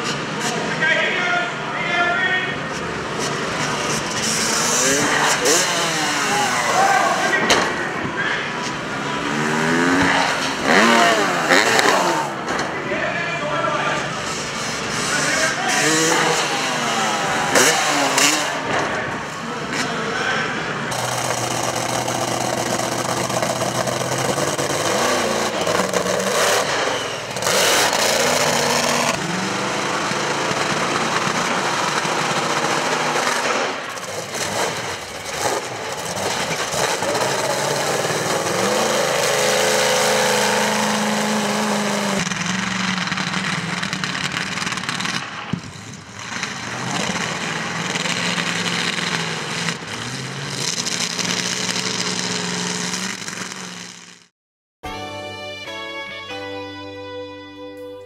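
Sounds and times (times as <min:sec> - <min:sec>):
monster truck engine revving: 0:00.0 - 0:54.3.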